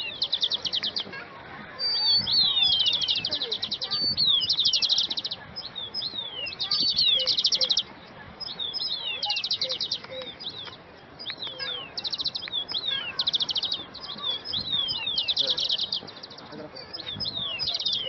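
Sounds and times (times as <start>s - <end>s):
songbirds chirping: 0.0s - 18.0s
fast rattling bird trills: 1.8s - 10.6s, 11.4s - 18.0s.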